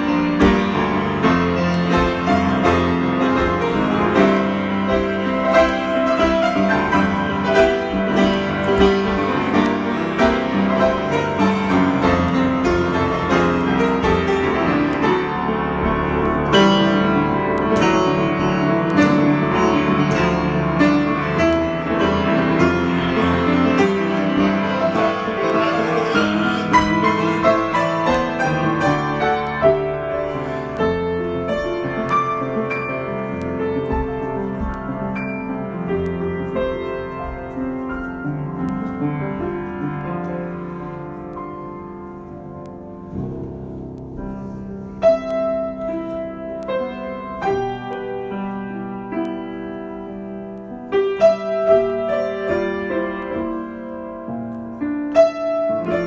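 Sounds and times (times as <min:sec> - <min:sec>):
solo piano improvisation: 0:00.0 - 0:56.0.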